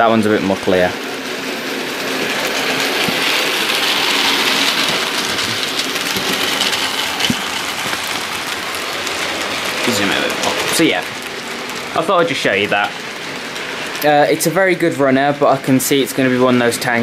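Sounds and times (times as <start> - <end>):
model trains whirring on rails: 0.0 - 17.0.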